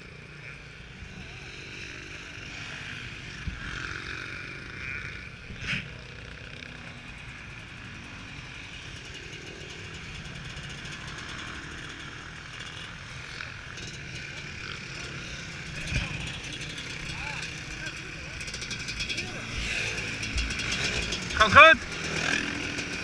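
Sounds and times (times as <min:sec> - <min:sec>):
dirt bike engines running: 0:00.0 - 0:23.0.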